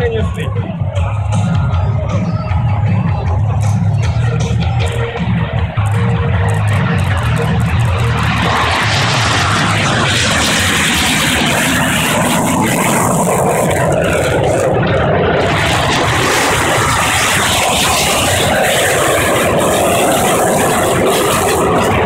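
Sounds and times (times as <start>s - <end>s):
jet fighters flying low past: 0.0s - 22.0s.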